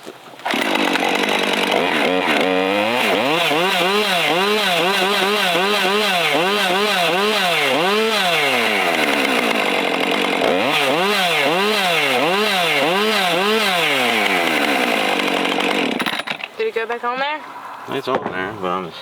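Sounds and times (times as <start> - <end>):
chainsaw engine revving: 0.4 - 16.6.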